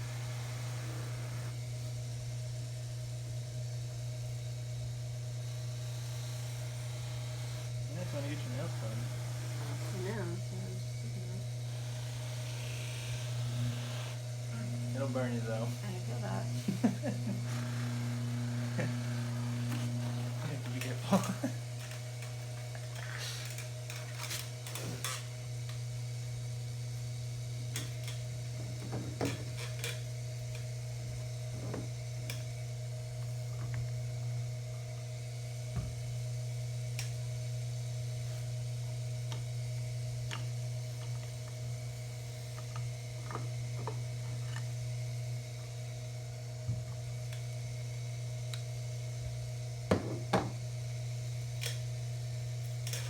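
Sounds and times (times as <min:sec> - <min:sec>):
lathe humming: 0:00.0 - 0:01.7, 0:04.8 - 0:53.0.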